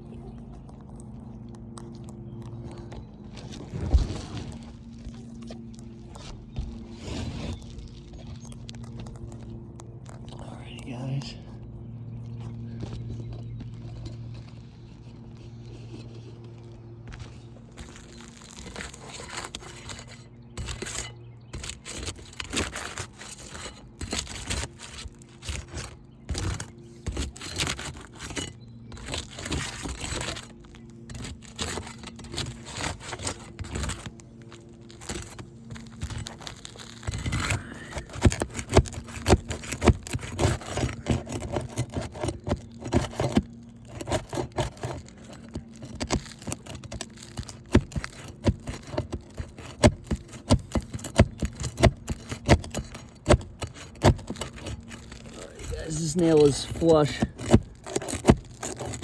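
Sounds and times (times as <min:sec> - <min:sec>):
roof shingles scraping and tearing: 0:01.7 - 0:11.1, 0:12.6 - 0:59.0.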